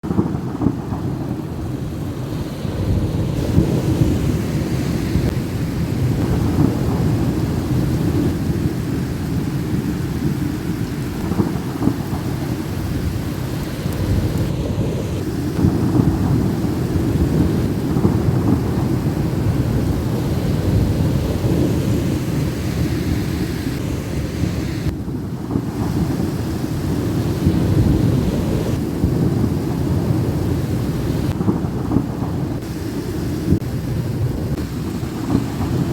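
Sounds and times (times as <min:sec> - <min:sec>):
low rolling thunder: 0:00.0 - 0:35.9
rain falling: 0:00.0 - 0:35.9.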